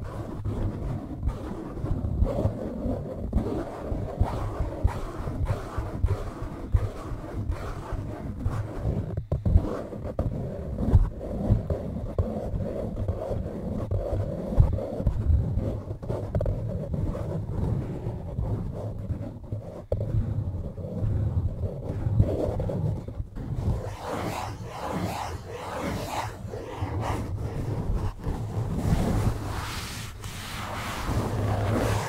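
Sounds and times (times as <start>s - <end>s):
rubbing on foam windscreen: 0.0s - 32.0s.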